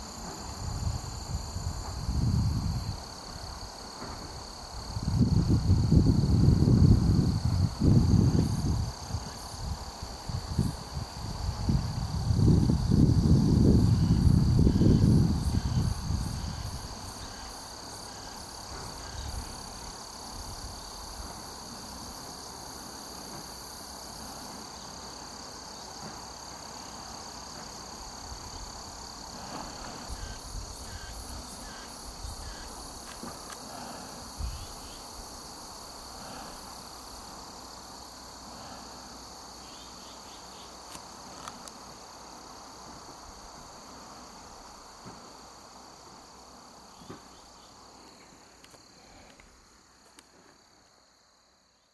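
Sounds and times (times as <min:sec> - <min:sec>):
insects chirring: 0:00.0 - 0:51.9.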